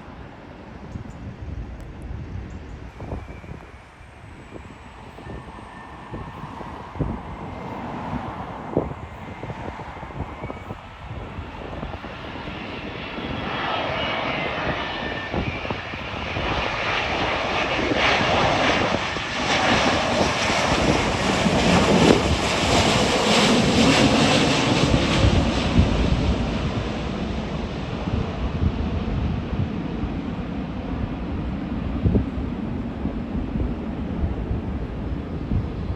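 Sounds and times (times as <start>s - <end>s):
jet airliner passing overhead: 0.0s - 35.9s.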